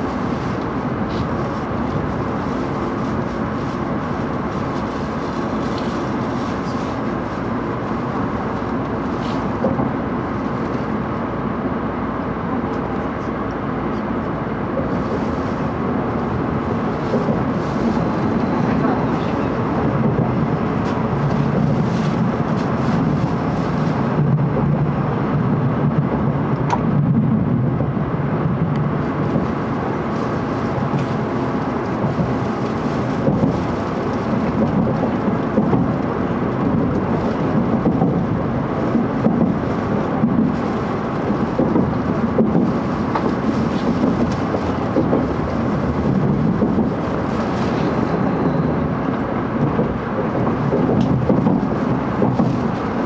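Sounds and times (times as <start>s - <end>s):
train rumbling on track: 0.0s - 53.0s.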